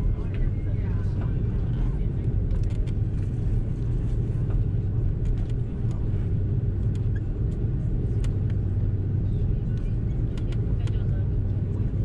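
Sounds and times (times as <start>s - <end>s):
aircraft engines idling rumble: 0.0s - 12.0s.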